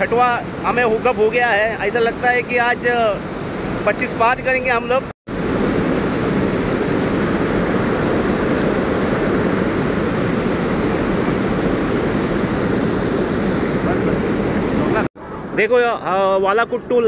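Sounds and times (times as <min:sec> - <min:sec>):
river water pouring over weir: 0:00.0 - 0:15.1.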